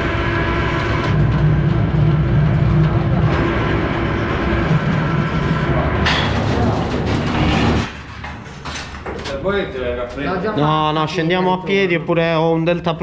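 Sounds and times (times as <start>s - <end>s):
construction hoist mechanical drone: 0.0s - 13.0s.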